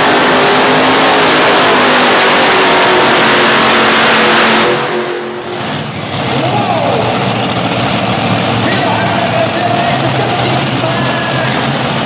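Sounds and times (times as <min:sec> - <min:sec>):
tractor engines roaring: 0:00.0 - 0:12.0.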